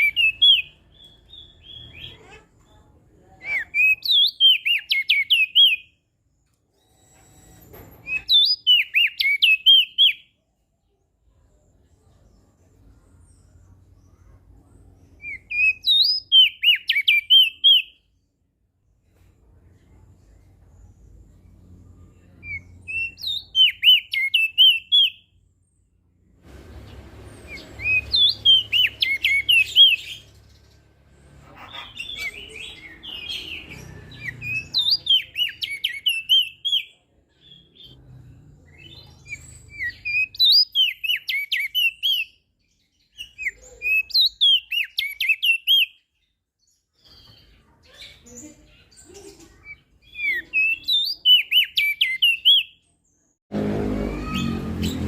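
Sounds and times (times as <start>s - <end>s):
bird singing warbling phrases: 0.0s - 6.0s, 8.1s - 10.3s, 11.8s - 18.3s, 20.8s - 25.4s, 27.4s - 38.0s, 38.7s - 53.3s.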